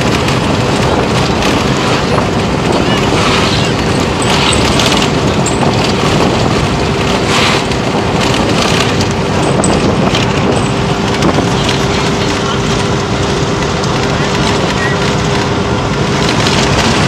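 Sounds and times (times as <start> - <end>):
wind and road noise in car: 0.0 - 17.0.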